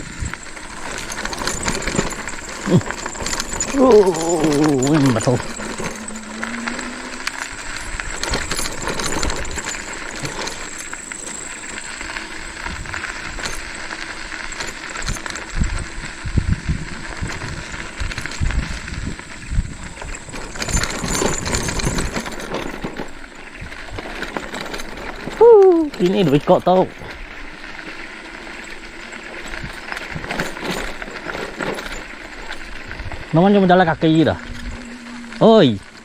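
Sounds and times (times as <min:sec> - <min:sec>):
metal rattling and clinking: 0:00.0 - 0:36.0.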